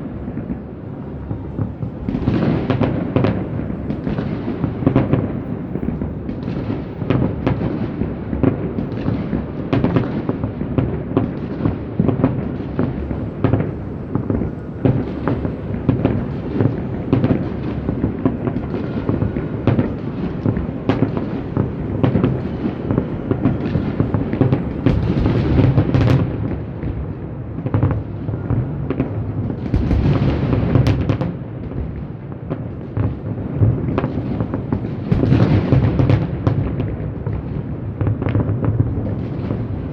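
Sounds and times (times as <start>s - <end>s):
fireworks booming and cracking: 0.0s - 39.9s.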